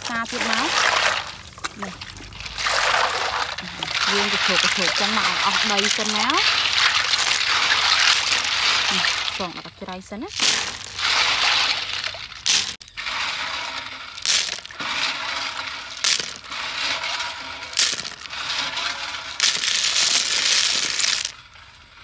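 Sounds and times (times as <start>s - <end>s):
snail shells clattering in water: 0.0s - 22.0s.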